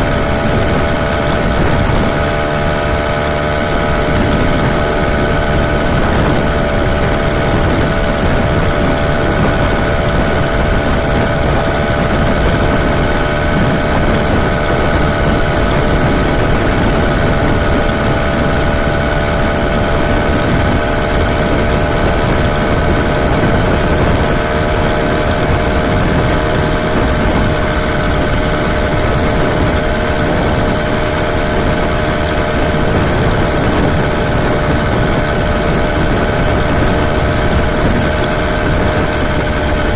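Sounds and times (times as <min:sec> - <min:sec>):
small engine droning: 0:00.0 - 0:39.9.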